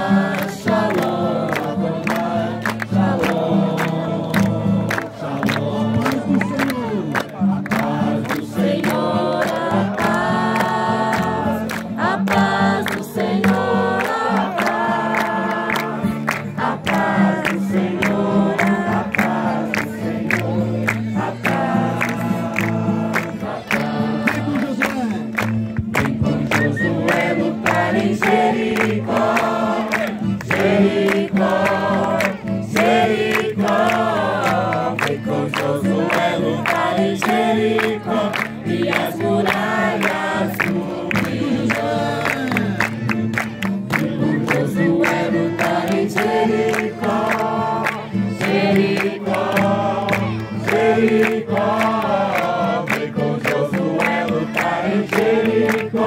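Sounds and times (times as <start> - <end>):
group singing a worship song: 0.0 - 6.9, 7.6 - 25.1, 26.0 - 43.0, 43.9 - 56.0
musical accompaniment: 1.6 - 56.0.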